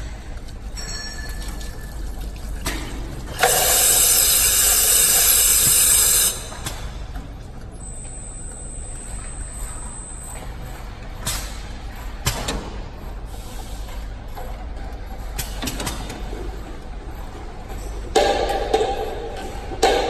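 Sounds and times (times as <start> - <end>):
bottle washing machine humming: 0.0 - 20.0.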